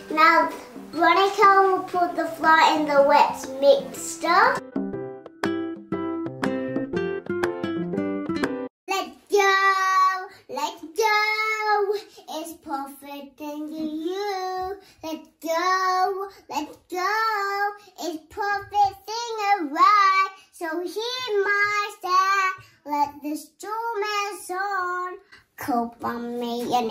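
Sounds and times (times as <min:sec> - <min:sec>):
child singing: 0:00.0 - 0:04.6, 0:08.9 - 0:26.9.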